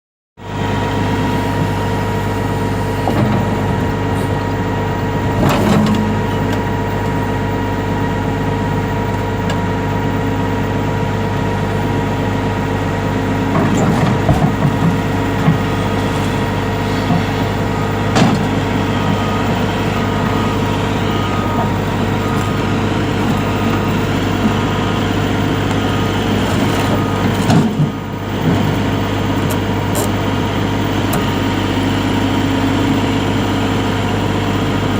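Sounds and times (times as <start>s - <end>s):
excavator diesel engine running: 0.4s - 34.9s.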